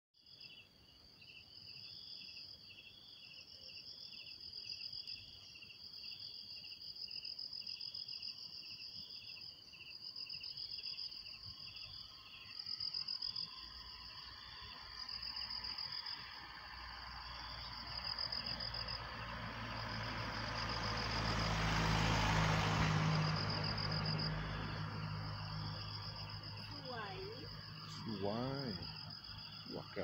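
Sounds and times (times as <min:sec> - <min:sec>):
high continuous insect trill: 0:00.2 - 0:30.0
pulsing insect chirp: 0:00.2 - 0:30.0.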